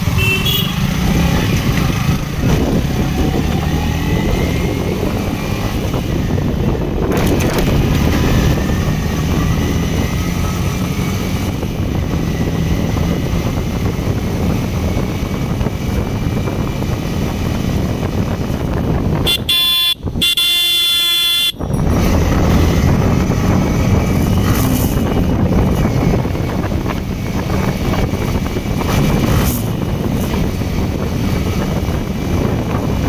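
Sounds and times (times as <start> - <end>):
wind rushing over microphone: 0.0 - 20.5, 21.6 - 33.0
motorcycle engine running: 0.0 - 33.0.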